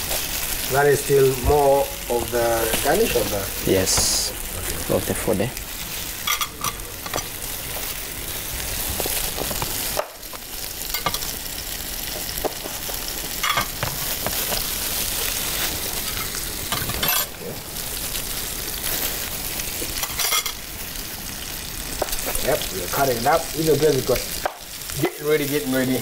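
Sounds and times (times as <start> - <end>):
food sizzling in a hot pan: 0.0 - 26.0.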